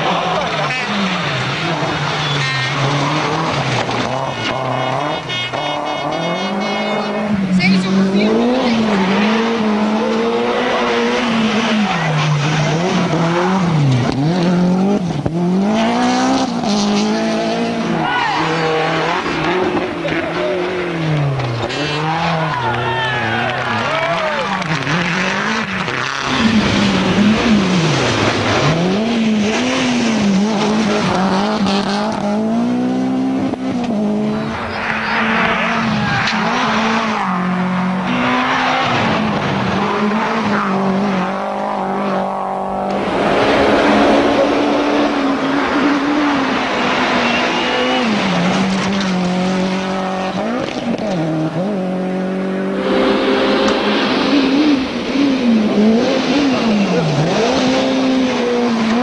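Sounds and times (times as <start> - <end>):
car engine revving: 0.0 - 59.0
road noise: 0.0 - 59.0.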